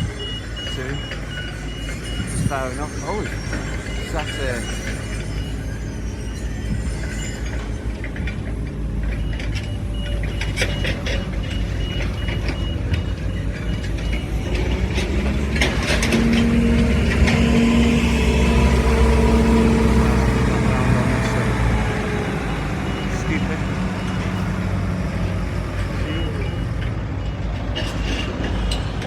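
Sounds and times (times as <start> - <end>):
diesel engine running: 0.0 - 29.0
reversing alarm beeping: 0.0 - 29.0.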